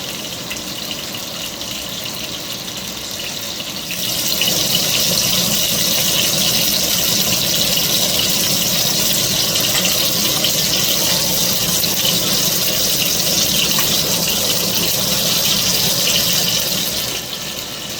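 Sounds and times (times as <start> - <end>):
chicken sizzling in hot oil: 0.0 - 17.9.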